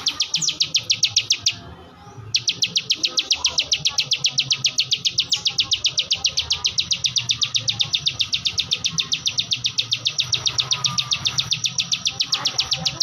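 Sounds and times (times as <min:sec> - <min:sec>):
bird trilling: 0:00.0 - 0:01.7, 0:02.3 - 0:13.0.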